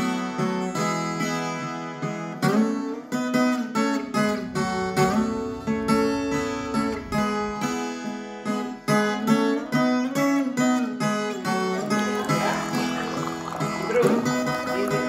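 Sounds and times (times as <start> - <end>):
plucked guitar notes: 0.0 - 10.0, 11.1 - 15.0.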